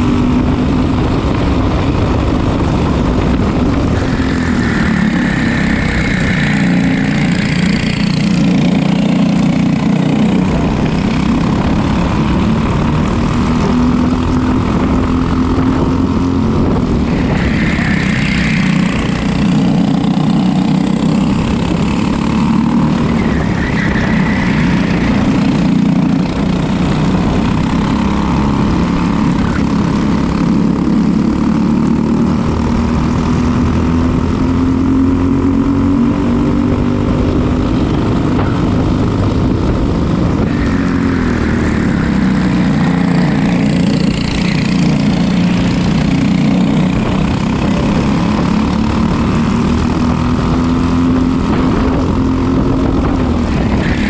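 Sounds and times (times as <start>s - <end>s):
kart engine running hard: 0.0s - 54.0s.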